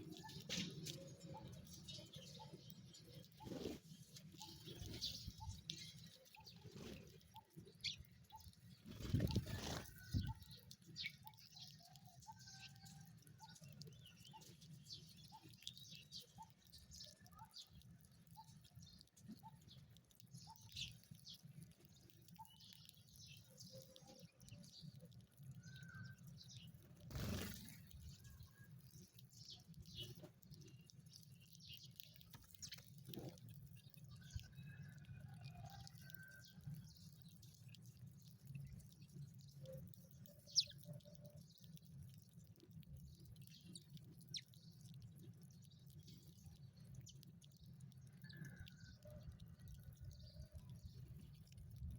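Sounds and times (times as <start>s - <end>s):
sparrows chirping: 0.0s - 51.9s.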